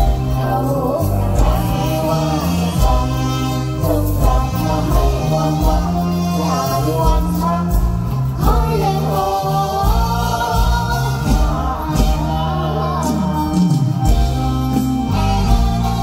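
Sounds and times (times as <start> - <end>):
young man singing: 0.0 - 14.1
backing band: 0.0 - 16.0.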